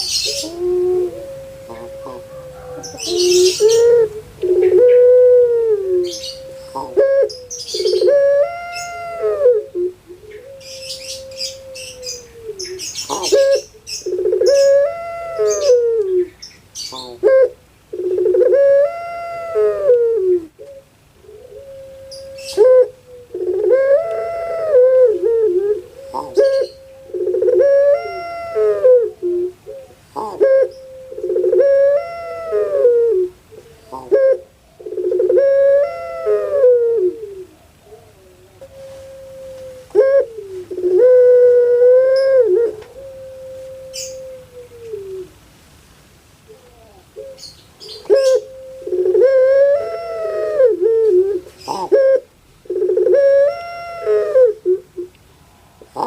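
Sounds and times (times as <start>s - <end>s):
dove cooing: 0.0s - 45.4s, 46.4s - 55.2s, 55.8s - 56.0s.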